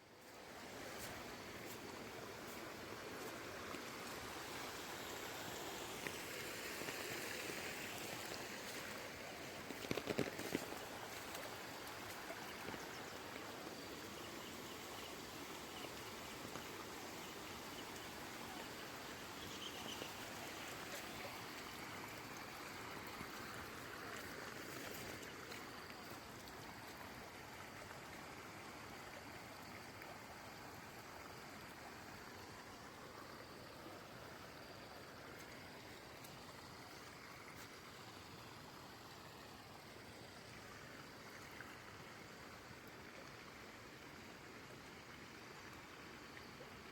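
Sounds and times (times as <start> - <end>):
floodwater rushing: 0.0 - 44.8.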